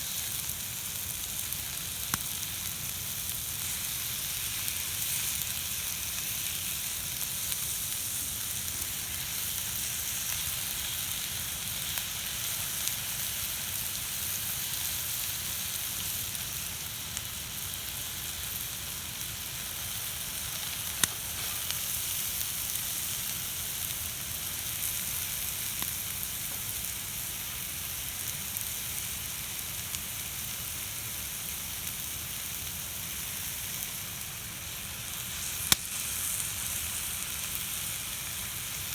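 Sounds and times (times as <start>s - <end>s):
food sizzling on a griddle: 0.0s - 38.9s.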